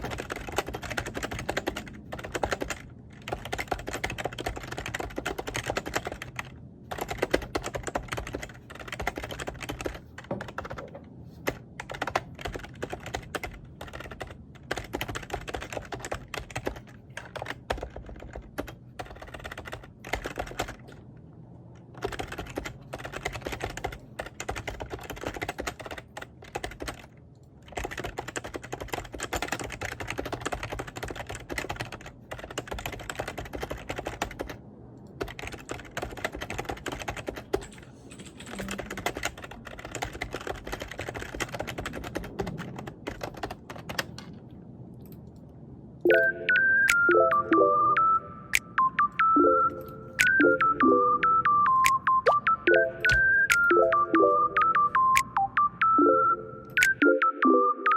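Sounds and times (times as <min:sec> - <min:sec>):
computer keyboard typing: 0:00.0 - 0:21.0, 0:21.8 - 0:44.3, 0:46.1 - 0:57.9.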